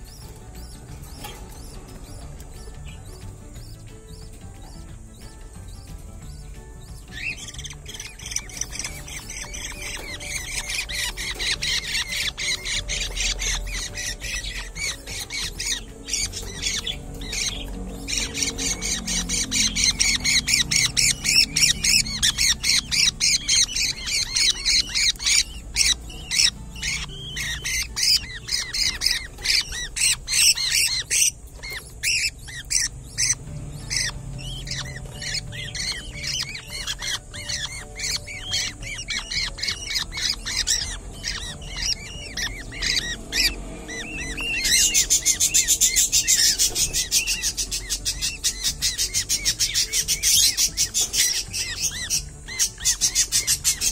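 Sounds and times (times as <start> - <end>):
budgerigars squawking and chattering: 0.0 - 53.9.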